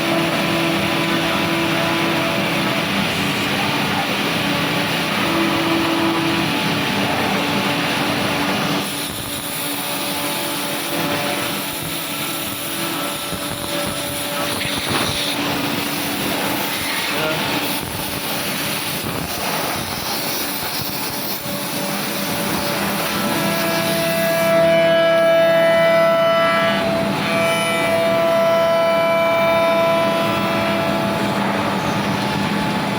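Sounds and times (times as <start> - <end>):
woodworking machine hissing and whining: 0.0 - 32.9.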